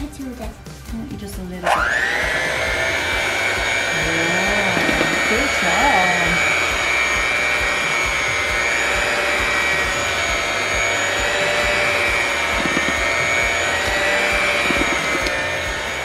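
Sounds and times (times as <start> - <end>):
electric hand mixer whine: 1.6 - 16.0.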